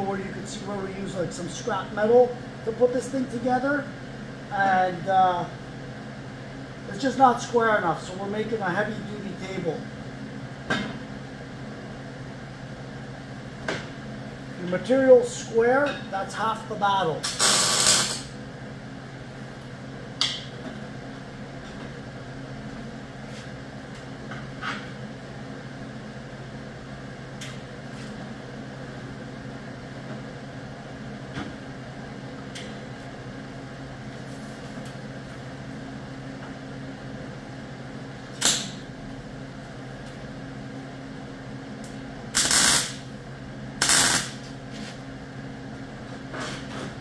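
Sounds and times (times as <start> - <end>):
shop equipment humming: 0.0 - 47.0.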